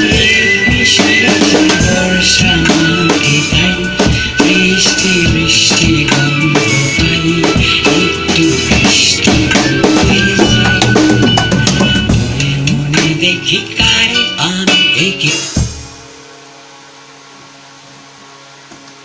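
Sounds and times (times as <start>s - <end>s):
instruments holding sustained notes: 0.0s - 15.3s
drum kit groove: 0.0s - 16.1s.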